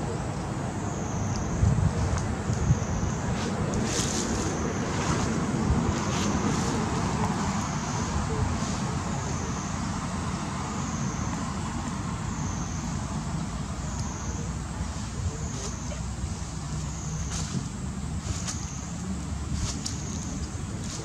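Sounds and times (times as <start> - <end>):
steady outdoor rumble: 0.0 - 21.0.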